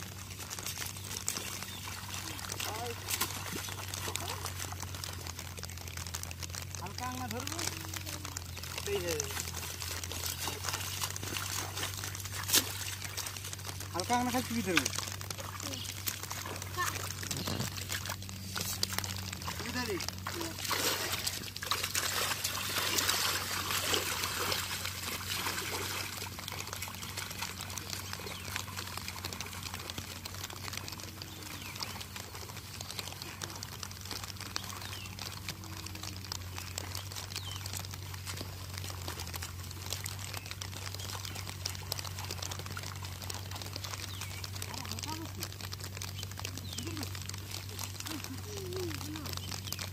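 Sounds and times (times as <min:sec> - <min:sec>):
low steady hum: 0:00.0 - 0:49.9
muddy water sloshing: 0:00.0 - 0:49.9.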